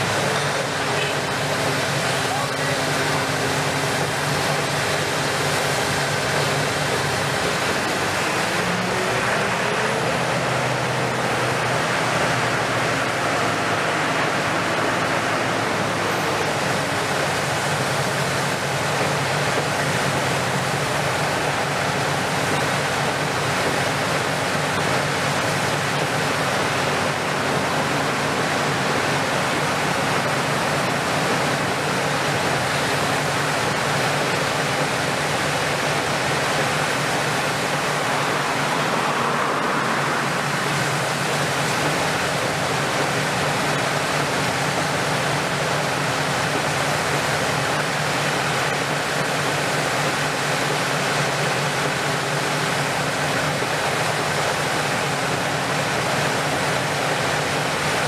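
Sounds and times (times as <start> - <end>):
excavator diesel engine running: 0.0 - 58.0
hydraulics working: 0.0 - 58.0
steady rushing hiss: 0.0 - 58.0.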